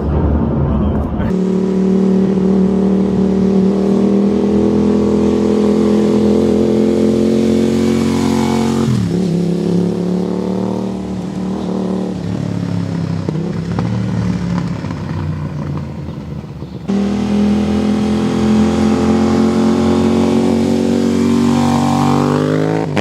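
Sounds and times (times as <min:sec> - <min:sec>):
motorcycle engine running: 0:01.3 - 0:23.0.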